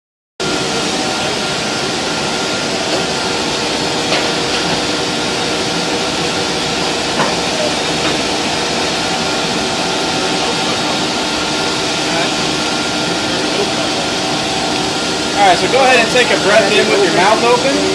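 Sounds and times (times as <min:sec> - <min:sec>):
machinery hiss and hum: 0:00.4 - 0:17.9.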